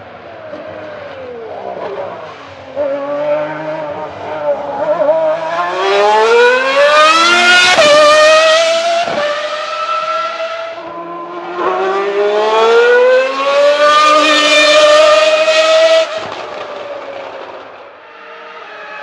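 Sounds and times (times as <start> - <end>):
racing car engine downshifting and revving: 0.0 - 19.0.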